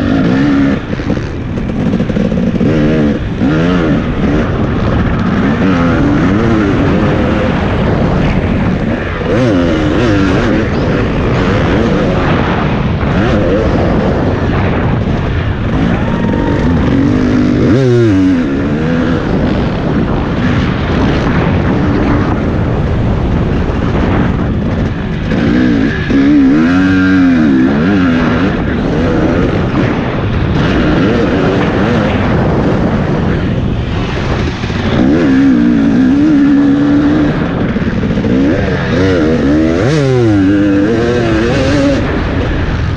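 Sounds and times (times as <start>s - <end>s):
off-road motorcycle engine revving: 0.0s - 42.9s.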